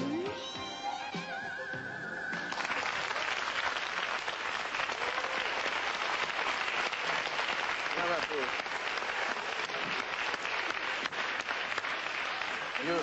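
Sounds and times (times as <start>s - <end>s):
audience applauding: 2.3s - 13.0s.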